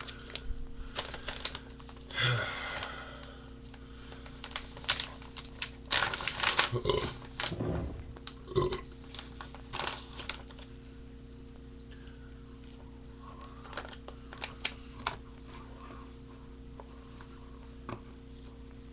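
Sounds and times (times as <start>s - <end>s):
low electrical hum: 0.0s - 18.9s.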